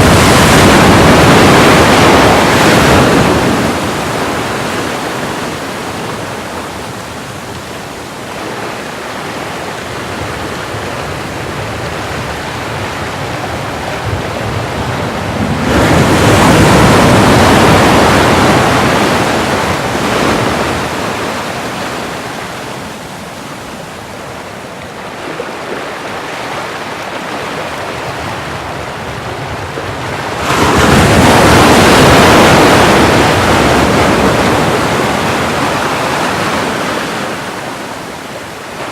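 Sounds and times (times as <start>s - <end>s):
big waves crashing: 0.0s - 38.9s
waves breaking and washing in: 0.0s - 38.9s.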